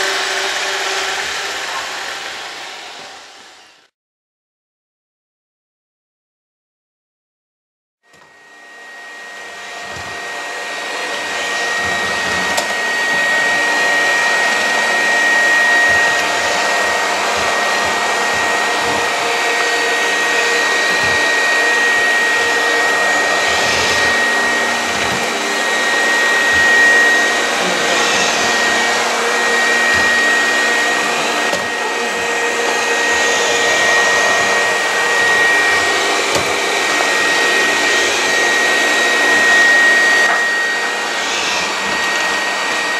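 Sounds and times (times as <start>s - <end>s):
robot vacuum cleaner whirring: 0.0s - 3.9s, 8.1s - 42.9s.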